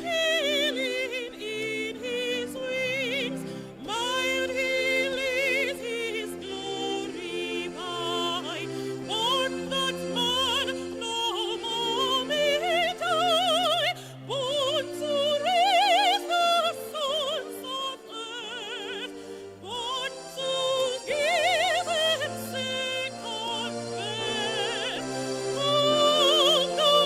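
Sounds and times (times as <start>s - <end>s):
instrumental accompaniment: 0.0s - 27.0s
woman singing operatically: 0.0s - 27.0s.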